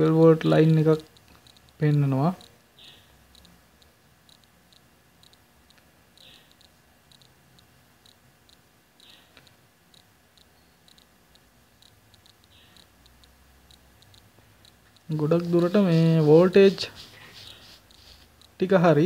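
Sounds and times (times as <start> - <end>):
faint ticks: 0.6 - 19.0.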